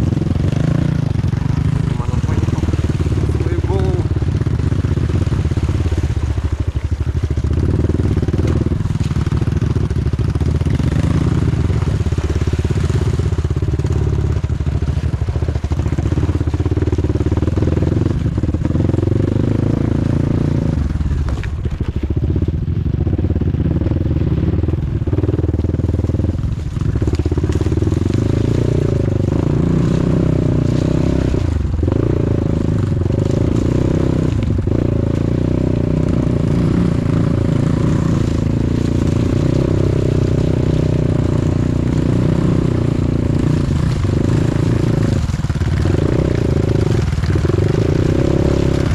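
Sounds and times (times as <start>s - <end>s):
off-road motorcycle engine revving: 0.0s - 48.9s.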